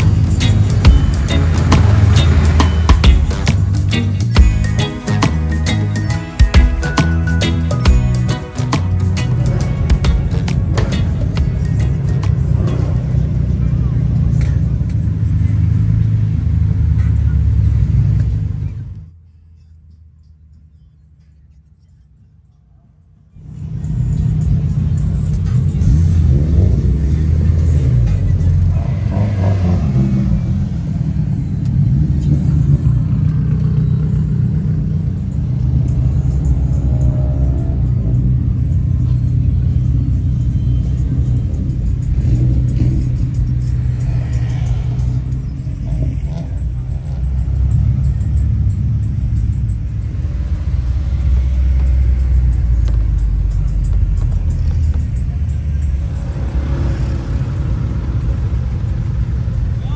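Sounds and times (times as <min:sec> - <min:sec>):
music playing: 0:00.0 - 0:15.3, 0:23.4 - 0:33.2, 0:34.6 - 0:59.9
car engines rumbling: 0:00.0 - 0:59.9.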